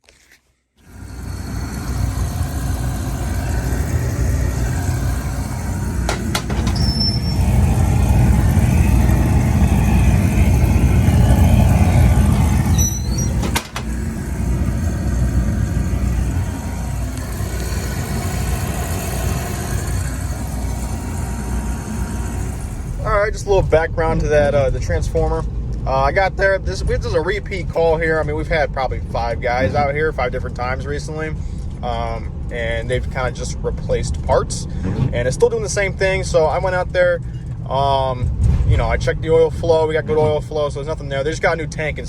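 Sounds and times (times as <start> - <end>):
oil burner rumbling: 0.8 - 42.0.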